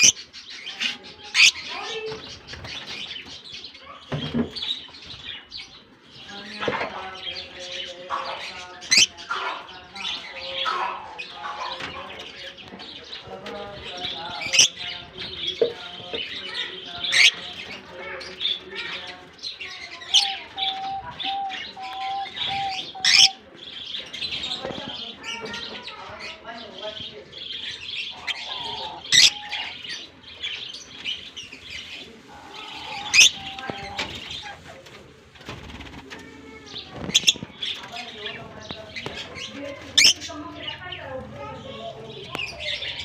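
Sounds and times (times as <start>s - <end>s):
lovebirds chattering: 0.0s - 43.0s.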